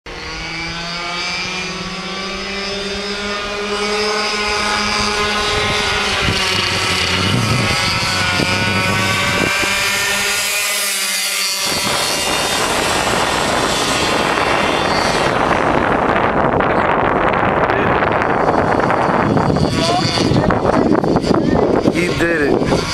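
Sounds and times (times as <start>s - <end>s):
go-kart engines racing: 0.1s - 22.9s
wind noise on microphone: 0.1s - 22.9s.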